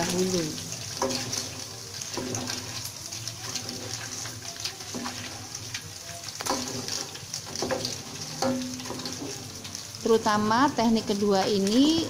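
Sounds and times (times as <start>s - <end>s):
strainer ladle stirring oil: 0.0s - 10.0s
hot oil sizzling in a wok: 0.0s - 12.0s.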